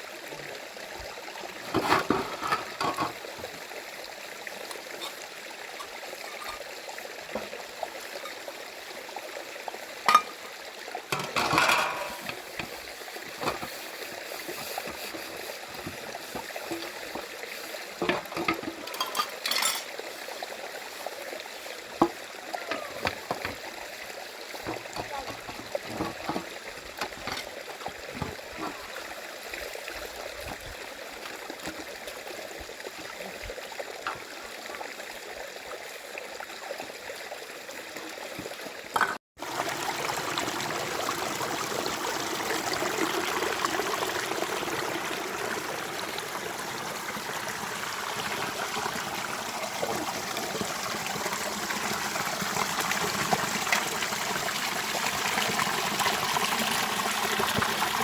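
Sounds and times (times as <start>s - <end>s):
rainwater trickling in a stream: 0.0s - 58.0s.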